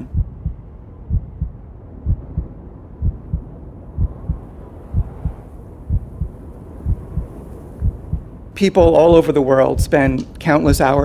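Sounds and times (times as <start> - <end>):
faint low hum: 0.0 - 11.0
heartbeat thumps: 0.0 - 11.0.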